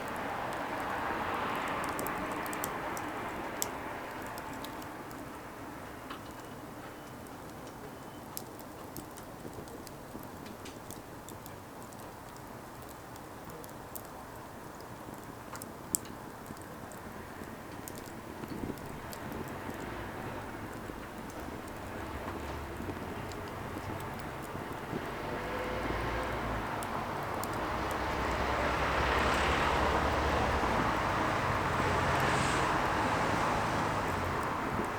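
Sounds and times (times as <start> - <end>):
firewood crackling and popping: 0.0 - 34.9.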